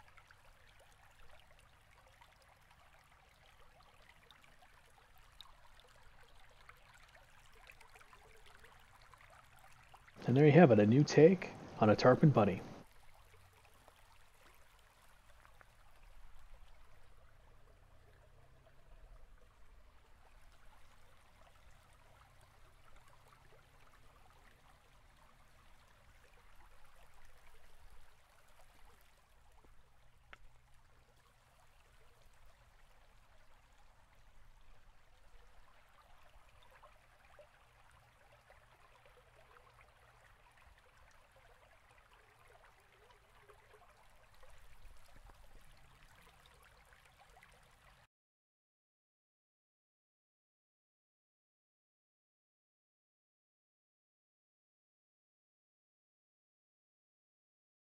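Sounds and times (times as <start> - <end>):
faint steady hiss: 0.0 - 48.0.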